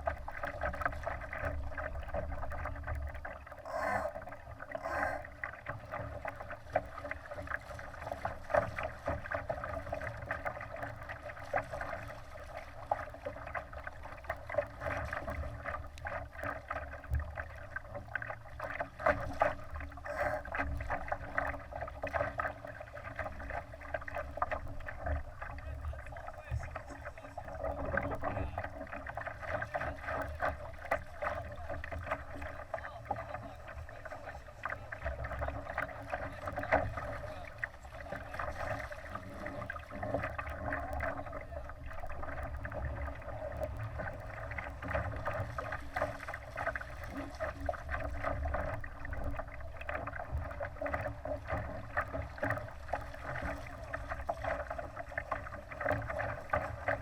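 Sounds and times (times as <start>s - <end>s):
water slapping against boat hull: 0.0s - 57.0s.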